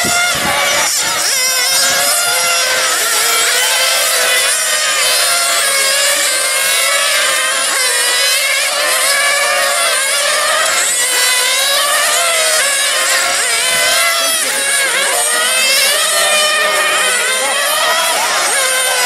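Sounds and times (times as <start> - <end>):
rc car engines whining: 0.0 - 19.0.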